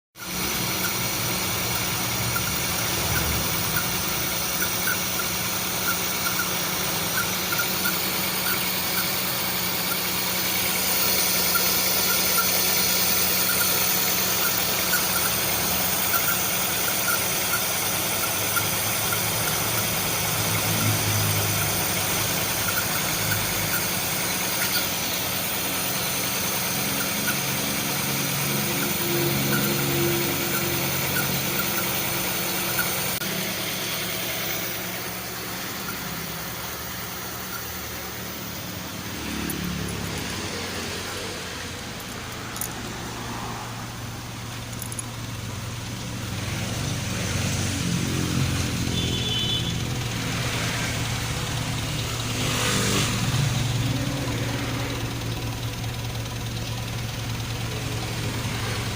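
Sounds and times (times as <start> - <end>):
car engine idling with misfire: 0.2 - 58.9.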